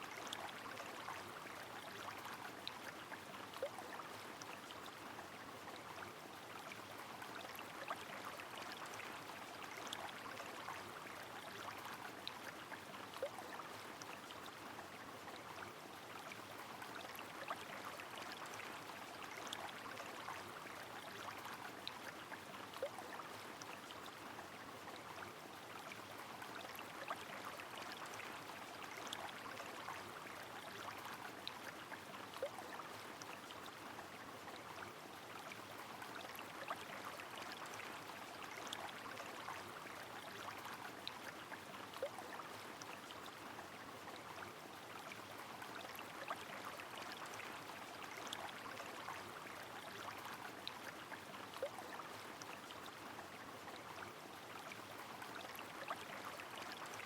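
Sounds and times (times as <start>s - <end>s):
rain on a flowing river: 0.0s - 57.0s.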